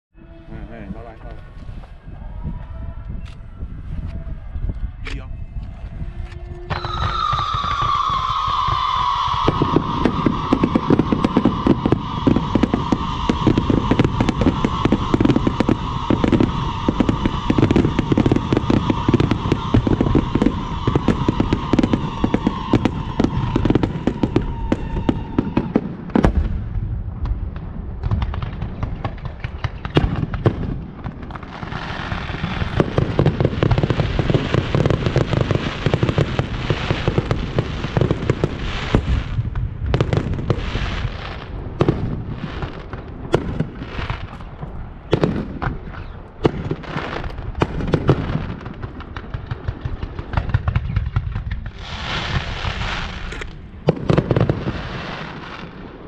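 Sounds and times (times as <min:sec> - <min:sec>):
firecrackers cracking and banging: 0:06.7 - 0:56.0.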